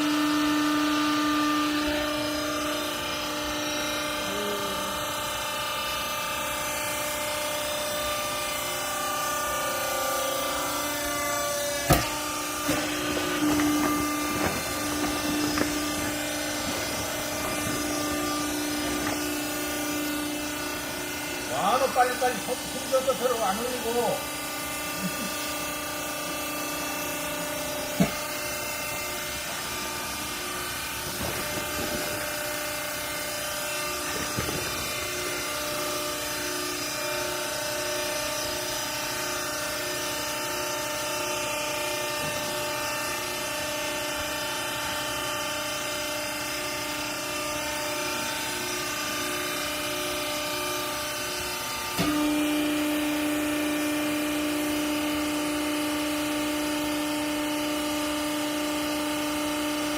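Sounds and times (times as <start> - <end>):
baler motor and pump humming: 0.0 - 59.9.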